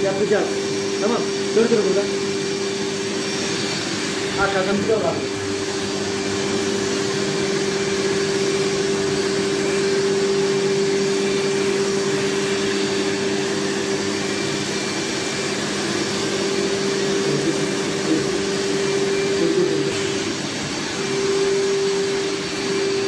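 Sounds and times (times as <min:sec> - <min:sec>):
carpet washing machine running: 0:00.0 - 0:23.0.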